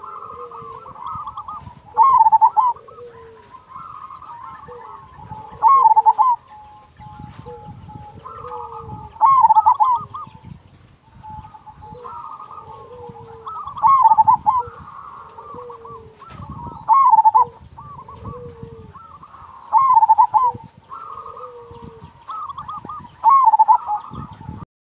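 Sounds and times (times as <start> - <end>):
dove cooing song: 0.0 - 24.6.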